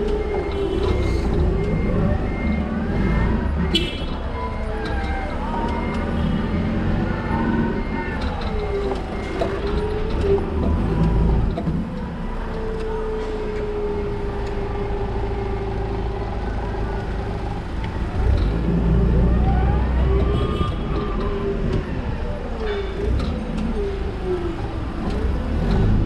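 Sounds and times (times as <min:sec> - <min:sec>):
forklift engine rumble: 0:00.0 - 0:26.0.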